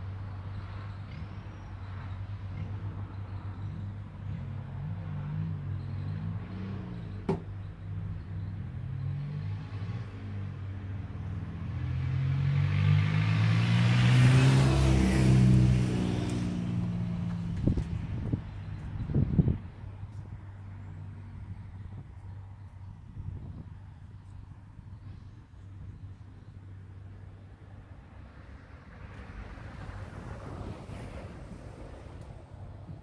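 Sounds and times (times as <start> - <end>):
vehicle engine passing: 0.7 - 23.9, 26.7 - 33.0.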